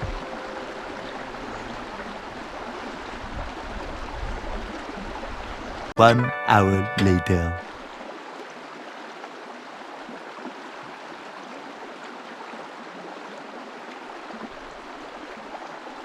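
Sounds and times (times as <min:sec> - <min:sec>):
running creek water: 0:00.0 - 0:05.9, 0:07.9 - 0:16.0.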